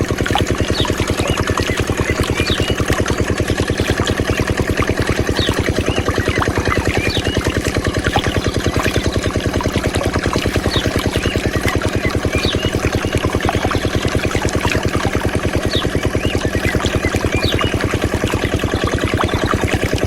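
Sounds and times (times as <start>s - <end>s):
small diesel engine chugging: 0.0s - 20.0s.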